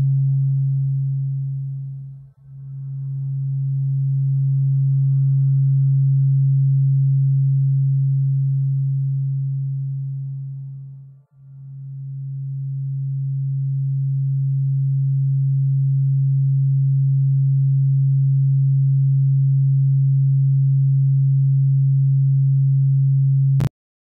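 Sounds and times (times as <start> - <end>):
low sine tone: 0.0 - 23.7.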